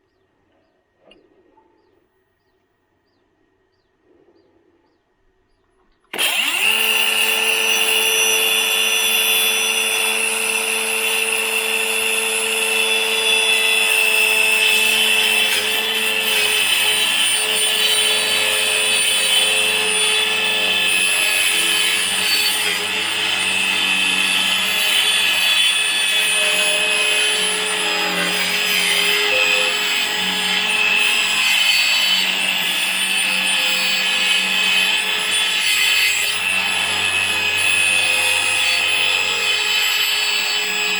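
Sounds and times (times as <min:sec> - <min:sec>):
circular saw cutting wood: 0:06.1 - 0:40.9.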